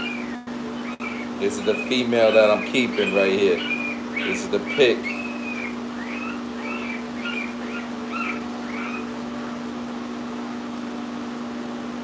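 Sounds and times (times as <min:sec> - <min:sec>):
puppies squeaking and whimpering: 0:00.0 - 0:09.6
steady low hum: 0:00.0 - 0:12.0.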